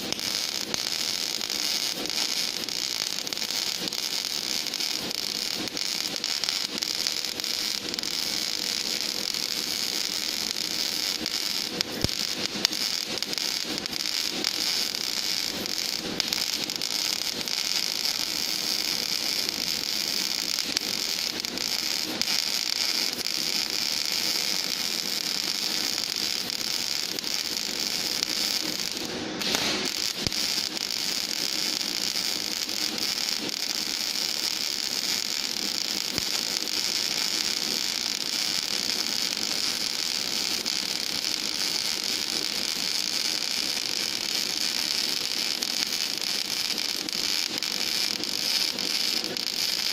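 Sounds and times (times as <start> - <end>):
welding arc crackling hiss: 0.0 - 49.9.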